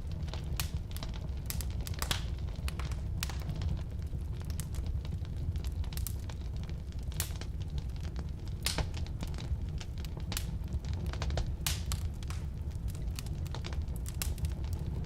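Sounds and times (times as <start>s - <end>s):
fire low rumble: 0.0s - 15.0s
firewood crackling and popping: 0.0s - 15.0s.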